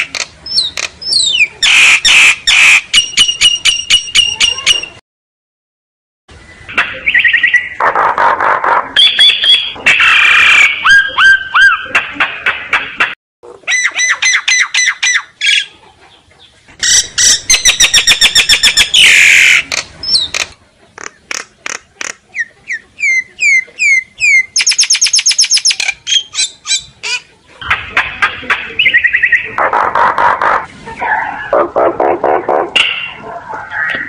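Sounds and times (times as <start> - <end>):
myna bird singing: 0.0 - 5.0, 6.3 - 12.0, 13.7 - 31.6.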